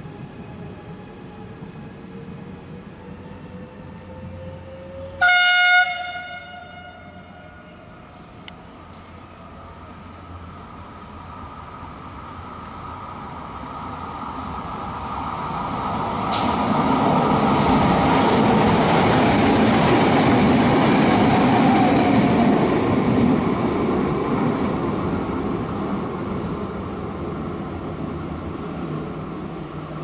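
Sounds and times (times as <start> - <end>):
train wheels rumbling on rails: 0.0 - 6.5, 8.4 - 30.0.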